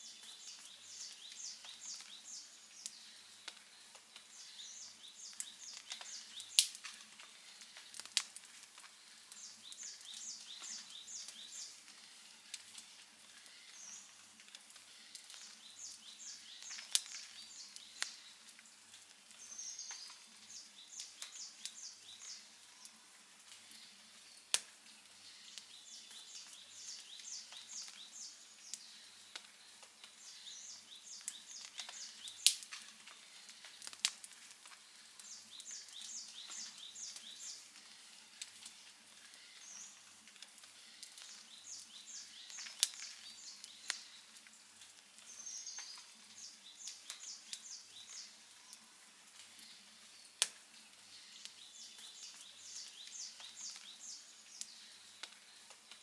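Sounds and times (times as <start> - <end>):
bird chirping: 0.0 - 8.1, 9.2 - 12.0, 14.9 - 18.5, 19.3 - 23.0, 23.6 - 33.9, 34.8 - 40.1, 40.7 - 44.6, 45.2 - 55.7
wood fire crackling and popping: 0.1 - 56.0.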